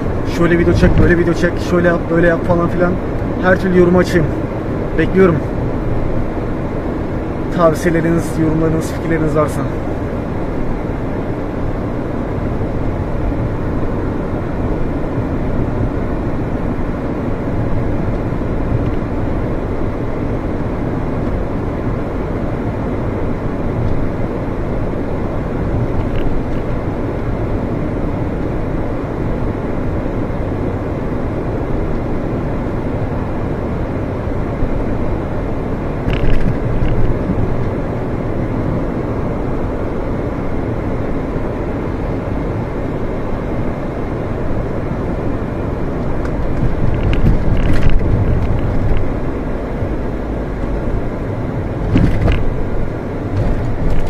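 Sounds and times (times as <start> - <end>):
car interior engine and tyre rumble: 0.0 - 54.0.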